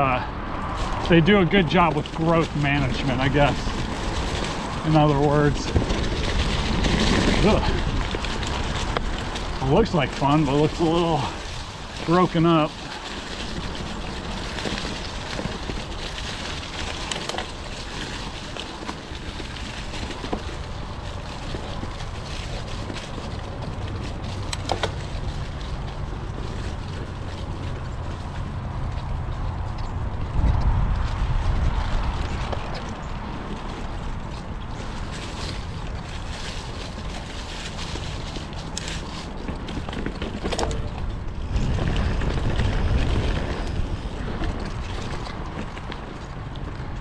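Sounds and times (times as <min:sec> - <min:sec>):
bike rumbling on dirt trail: 0:00.0 - 0:47.0
wind buffeting microphone: 0:00.0 - 0:47.0.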